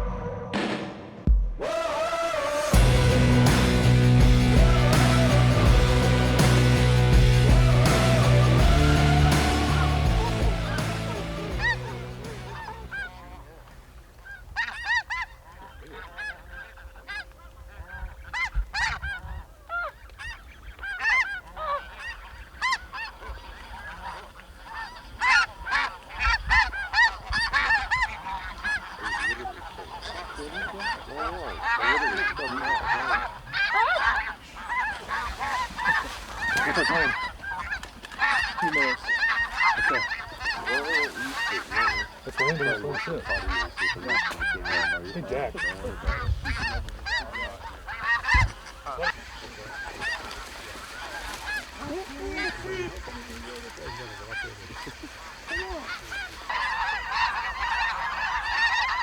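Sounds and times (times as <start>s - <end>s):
geese honking: 1.6s - 59.0s.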